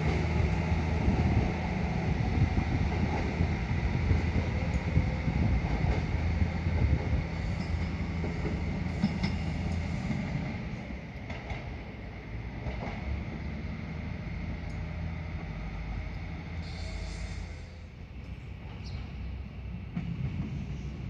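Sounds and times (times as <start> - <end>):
train rumbling on tracks: 0.0 - 21.0.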